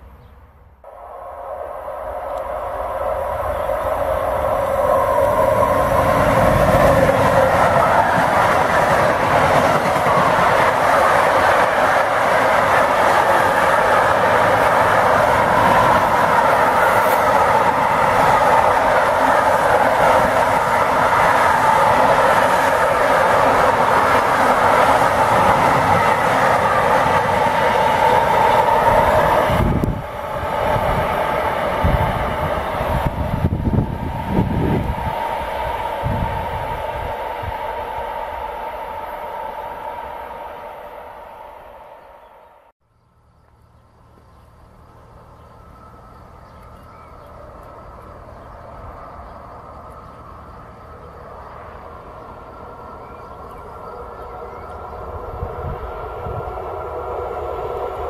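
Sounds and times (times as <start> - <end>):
freight train wheels rolling on rails: 0.9 - 42.7, 43.4 - 58.0.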